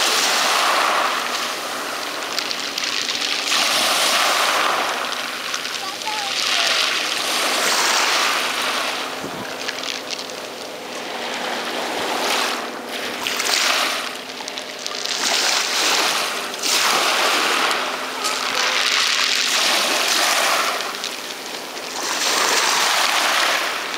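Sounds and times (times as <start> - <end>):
waves washing over shingle: 0.0 - 23.9.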